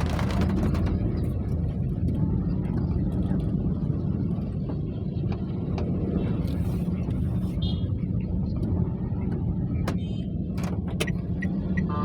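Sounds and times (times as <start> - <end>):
low rumble with hum: 0.0 - 12.0.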